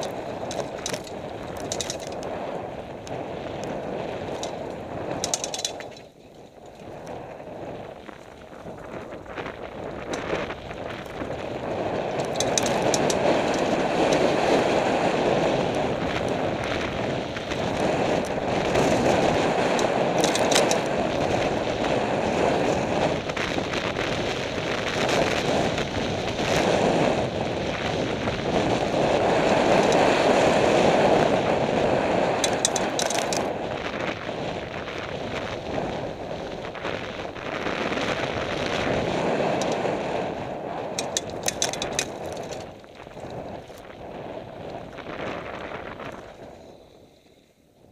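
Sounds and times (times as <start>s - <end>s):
bike clattering: 0.0s - 27.0s, 27.6s - 46.8s
tyres rumbling on dirt: 0.0s - 46.6s
wind rushing over microphone: 0.0s - 47.9s.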